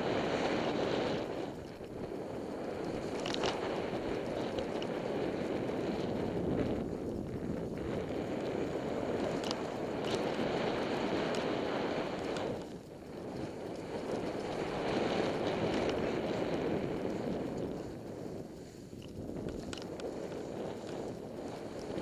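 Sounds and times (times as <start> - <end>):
skis rushing through snow: 0.0 - 22.0
wind buffeting microphone: 0.0 - 22.0
faint clicks: 1.4 - 8.6, 9.2 - 22.0.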